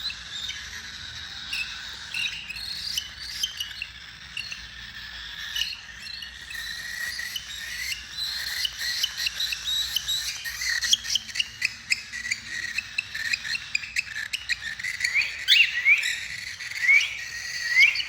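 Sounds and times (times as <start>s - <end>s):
cockatiels chirping: 0.0s - 18.0s.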